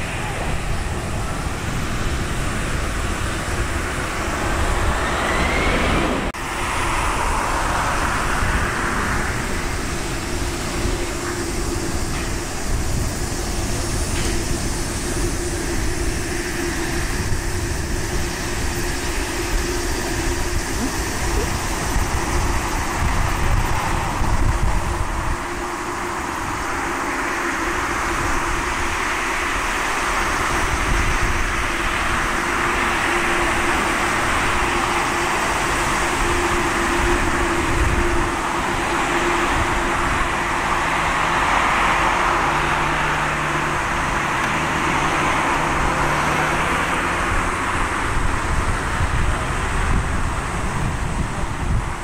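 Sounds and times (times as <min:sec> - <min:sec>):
jet engines running: 0:00.0 - 0:52.0.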